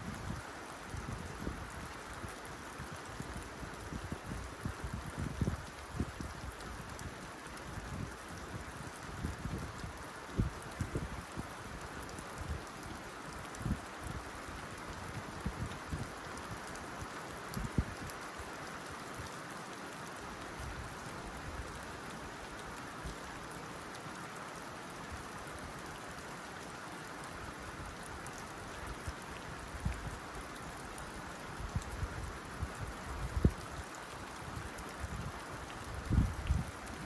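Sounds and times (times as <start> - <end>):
rain on a tin roof: 0.0 - 37.0.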